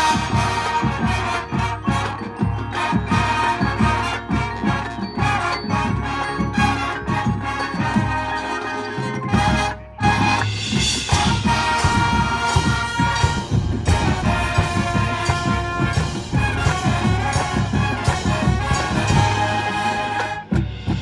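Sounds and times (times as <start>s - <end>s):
drums: 0.0s - 21.0s
marching band brass: 0.0s - 21.0s.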